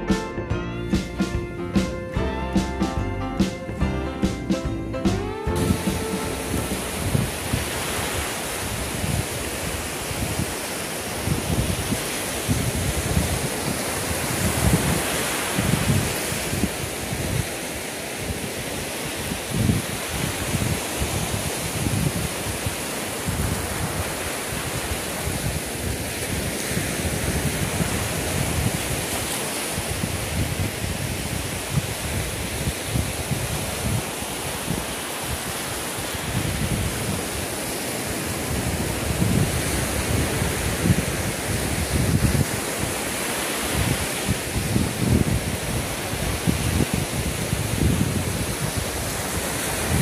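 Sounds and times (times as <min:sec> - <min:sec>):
wind gusting on microphone: 0:05.5 - 0:50.0
small waves breaking on beach: 0:05.6 - 0:50.0.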